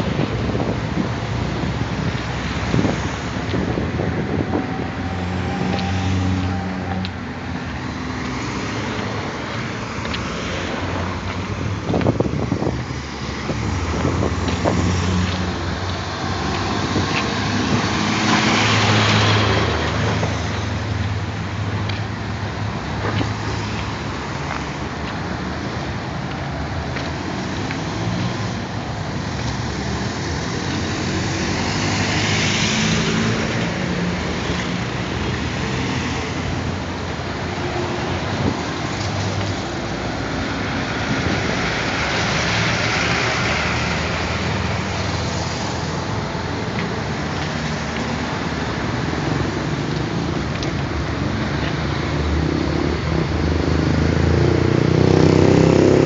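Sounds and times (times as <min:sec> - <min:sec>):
bus passing: 0:00.0 - 0:56.0
vehicles passing close: 0:00.0 - 0:56.0.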